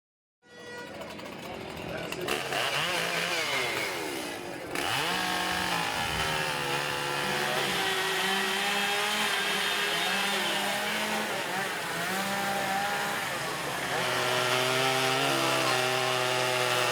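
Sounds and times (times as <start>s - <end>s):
chainsaws revving: 0.8s - 16.9s.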